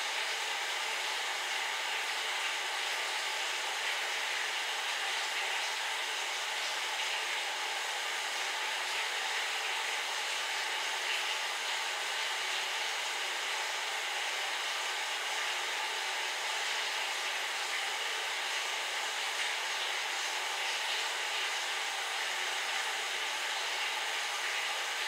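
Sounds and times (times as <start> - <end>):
electric fan running: 0.0 - 25.0.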